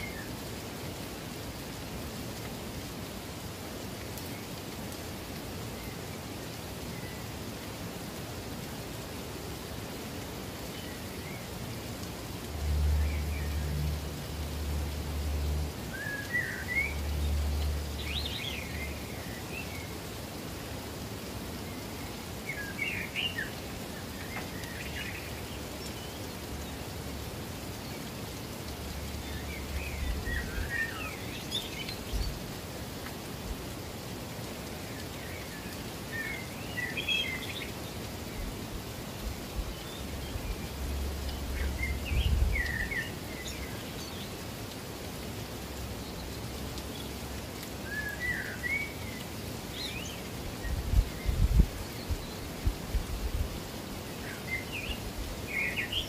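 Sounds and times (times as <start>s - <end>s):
songbird singing: 0.0s - 1.9s, 9.5s - 56.0s
rushing water: 0.0s - 56.0s.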